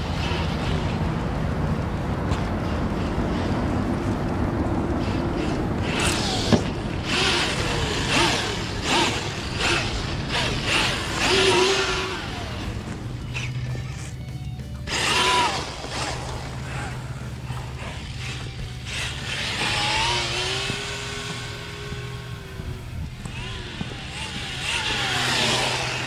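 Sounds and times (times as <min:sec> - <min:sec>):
tyres spinning on gravel: 0:00.0 - 0:26.0
electric motor whining: 0:05.0 - 0:26.0.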